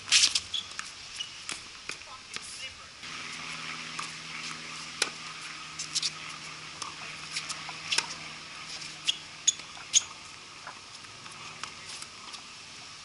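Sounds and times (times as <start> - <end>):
tennis ball hitting racket: 0.1 - 12.5
tennis ball bouncing on court: 0.2 - 12.5.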